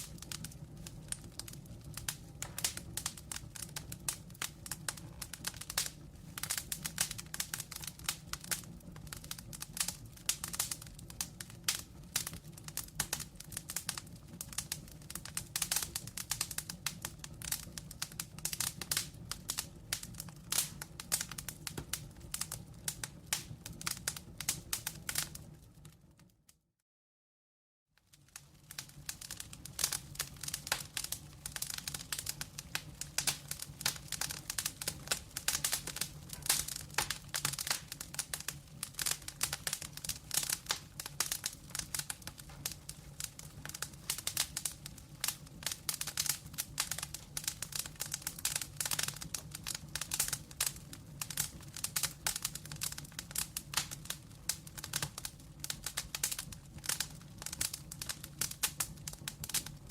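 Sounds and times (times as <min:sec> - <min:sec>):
wood fire crackling and popping: 0:00.0 - 0:26.5, 0:28.0 - 0:59.9.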